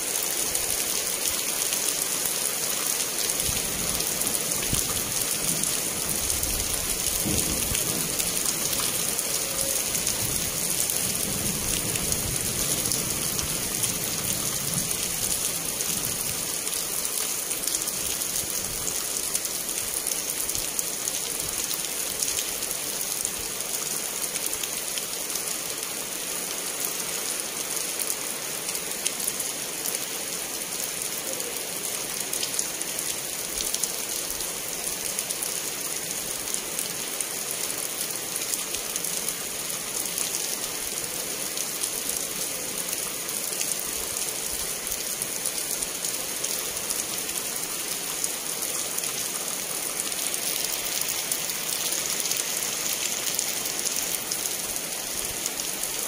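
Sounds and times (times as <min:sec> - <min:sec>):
rain falling on grass and concrete: 0:00.0 - 0:56.0.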